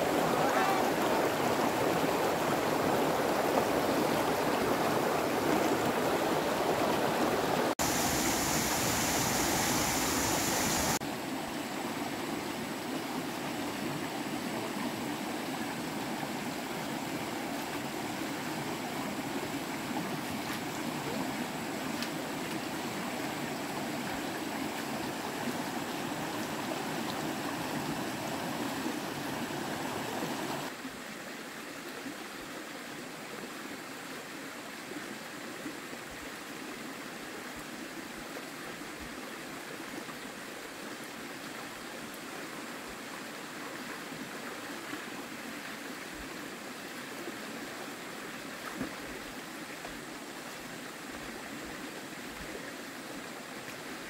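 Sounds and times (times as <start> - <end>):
running water rushing: 0.0 - 35.0, 35.7 - 54.0.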